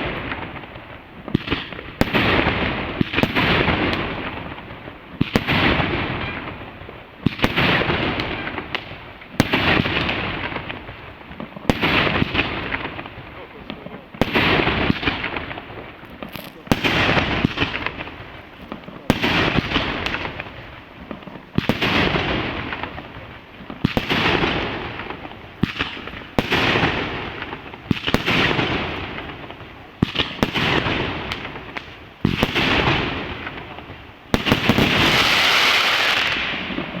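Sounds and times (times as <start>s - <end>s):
fireworks bangs: 0.0s - 37.0s
fireworks hiss and crackle: 0.0s - 37.0s.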